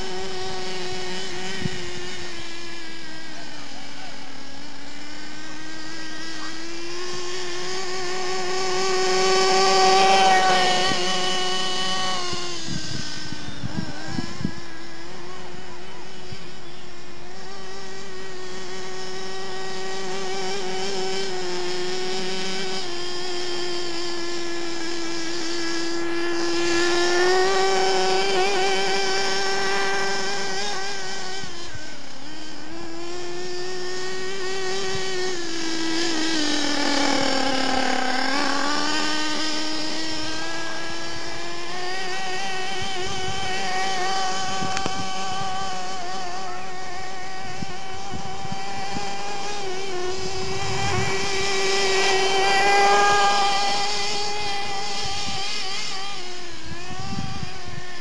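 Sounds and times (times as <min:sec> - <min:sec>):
rc car nitro engine whining: 0:00.0 - 0:58.0.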